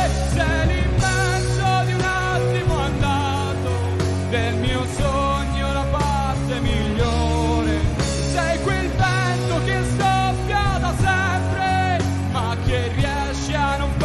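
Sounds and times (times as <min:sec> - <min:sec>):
bass guitar: 0:00.0 - 0:14.0
drums: 0:00.0 - 0:14.0
electric guitars: 0:00.0 - 0:14.0
male singer: 0:00.0 - 0:14.0.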